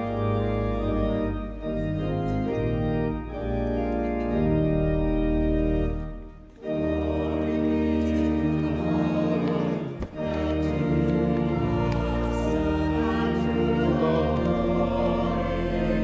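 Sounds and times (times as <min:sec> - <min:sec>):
pipe organ playing chords: 0:00.0 - 0:16.0.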